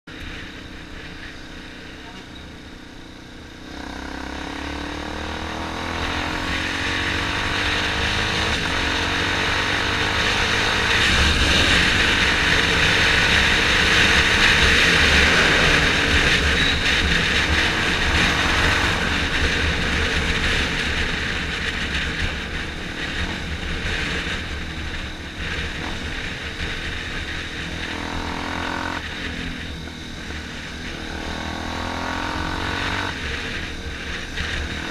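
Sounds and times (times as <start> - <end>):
motorcycle engine accelerating: 0.1 - 34.9
wind rushing over microphone: 2.4 - 34.9.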